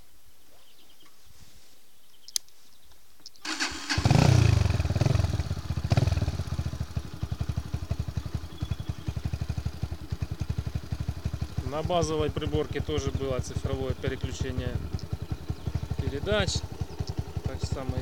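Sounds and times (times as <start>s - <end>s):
motorcycle engine starting and idling: 3.4s - 18.0s.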